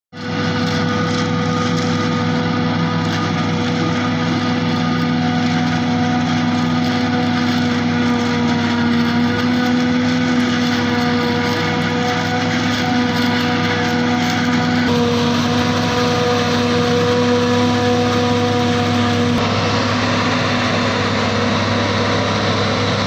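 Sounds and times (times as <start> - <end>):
forage harvester droning: 0.1 - 23.0.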